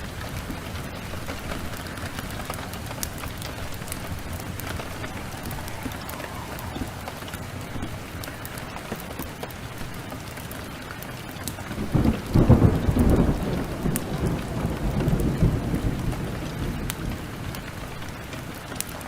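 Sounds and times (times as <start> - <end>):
thunder rumbling: 0.0 - 10.8, 11.6 - 18.8
heavy rain: 0.0 - 19.0.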